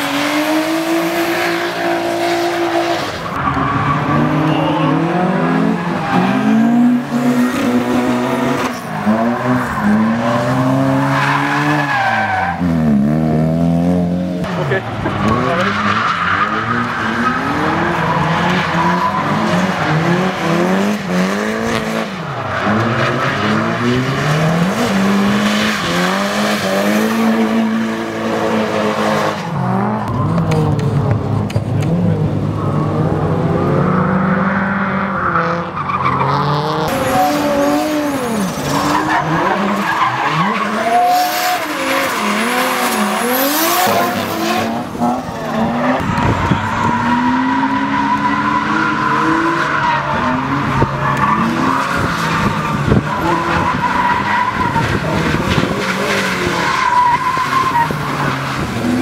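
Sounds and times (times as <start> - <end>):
car engines revving hard: 0.0 - 59.0
tyres screeching and skidding: 0.0 - 59.0.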